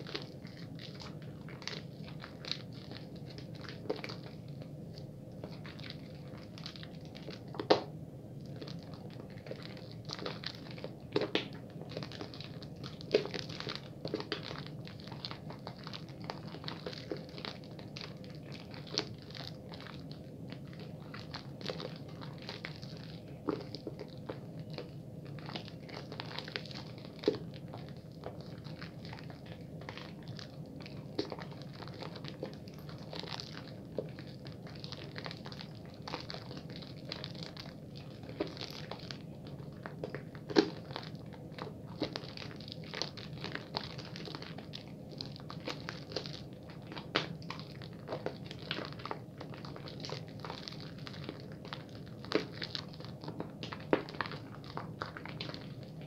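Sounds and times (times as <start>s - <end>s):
soap lather crackling: 0.0s - 56.0s.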